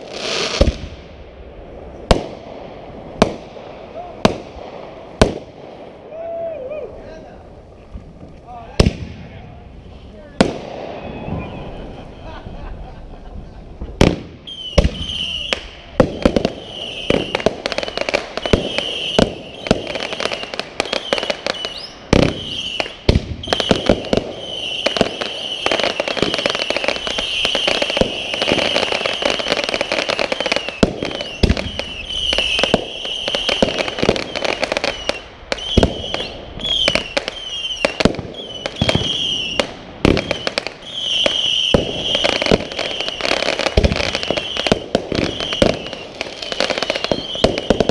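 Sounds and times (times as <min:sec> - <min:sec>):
fireworks bangs and pops: 0:00.0 - 0:06.1, 0:07.7 - 0:47.9
fireworks crackling: 0:00.0 - 0:47.9.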